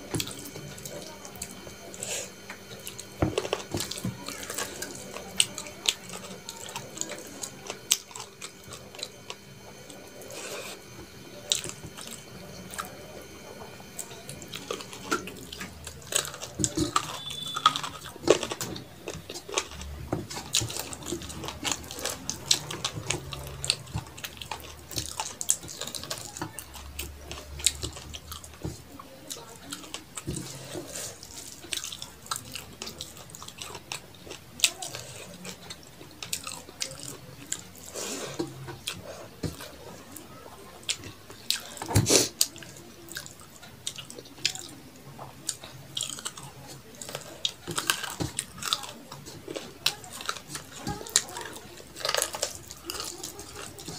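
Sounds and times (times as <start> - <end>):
chewing and lip smacks: 0.0 - 53.9.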